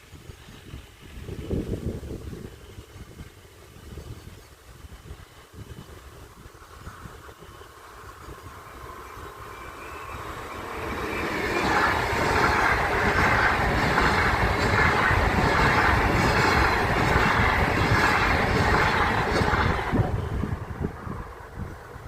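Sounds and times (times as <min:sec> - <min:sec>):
train passing: 0:00.4 - 0:22.0.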